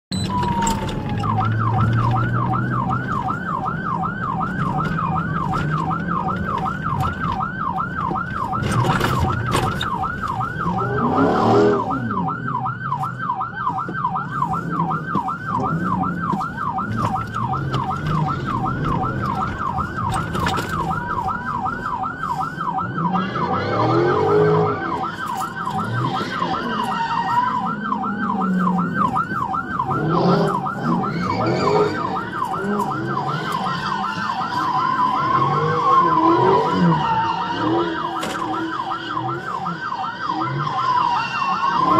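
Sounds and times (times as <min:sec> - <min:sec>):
car engine and road noise: 0:00.1 - 0:41.9
police siren yelping: 0:00.1 - 0:41.9.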